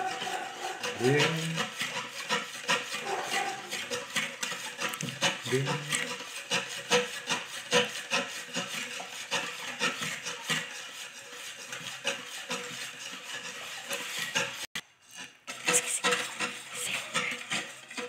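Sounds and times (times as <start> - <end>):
whisk scraping metal bowl: 0.0 - 18.0.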